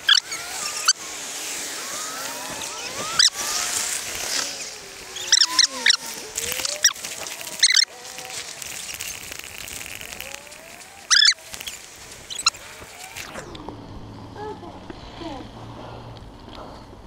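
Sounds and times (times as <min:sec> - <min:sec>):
bicycle squeaking: 0:00.0 - 0:14.3
tyres on wet pavement: 0:00.0 - 0:17.0.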